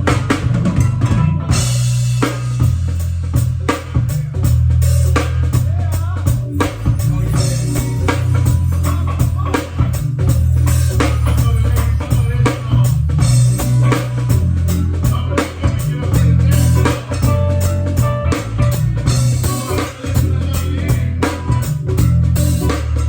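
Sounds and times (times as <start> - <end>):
band playing: 0.0 - 23.0.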